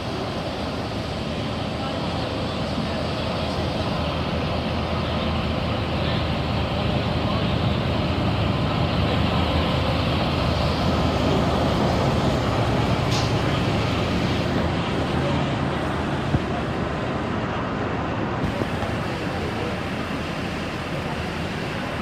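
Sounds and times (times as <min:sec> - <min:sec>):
train engine rumbling: 0:00.0 - 0:22.0.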